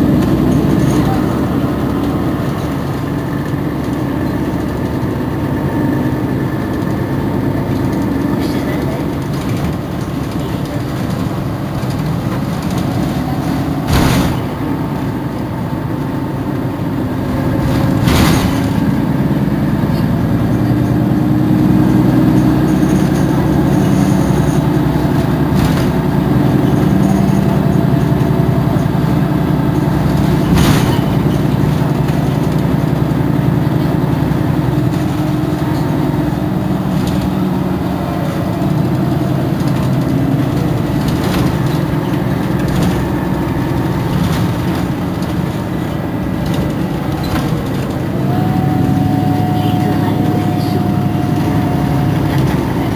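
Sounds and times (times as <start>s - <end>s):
bus engine idling: 0.0s - 52.9s.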